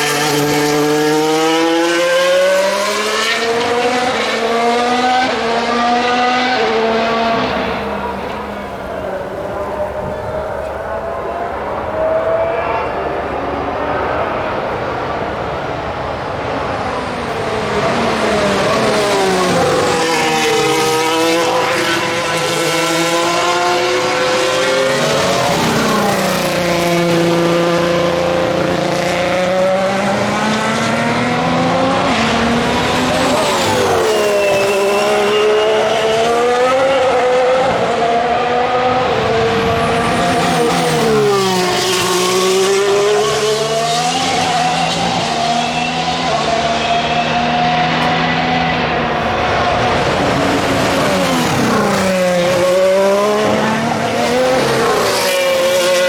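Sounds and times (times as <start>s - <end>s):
racing cars passing: 0.0s - 56.0s.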